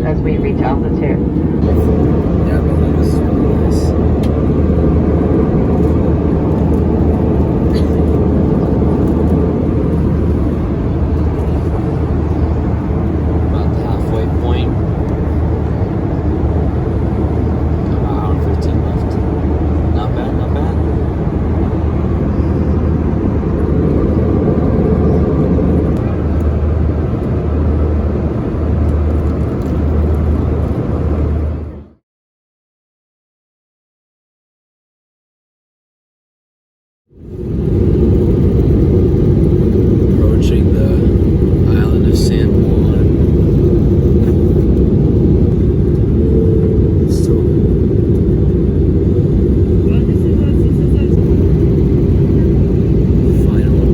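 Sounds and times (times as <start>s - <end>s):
airplane cabin engine and airflow rush: 0.0s - 32.0s, 37.1s - 53.9s
low hum: 0.0s - 32.0s, 37.2s - 53.9s.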